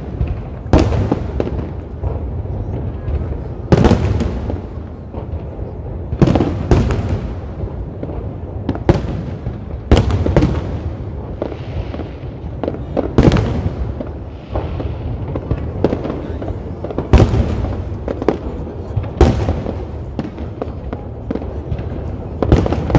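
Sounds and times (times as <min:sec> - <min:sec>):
firework bangs: 0:00.0 - 0:22.9.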